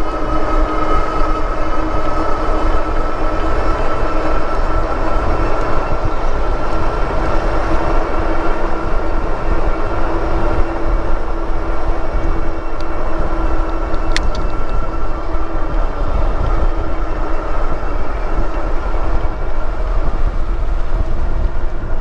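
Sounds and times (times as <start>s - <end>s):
electric hub motor whine: 0.0s - 22.0s
wind rush and rolling noise: 0.0s - 22.0s.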